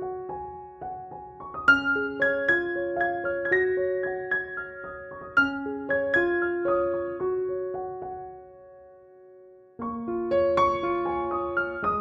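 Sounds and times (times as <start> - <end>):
soft piano notes: 0.0 - 12.0.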